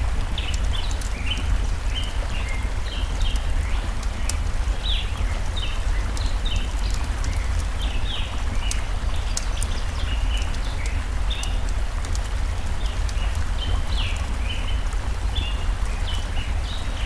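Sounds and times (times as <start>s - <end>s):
crackling campfire: 0.0s - 17.0s
stream water flowing: 0.0s - 17.0s
birds chirping: 0.2s - 17.0s.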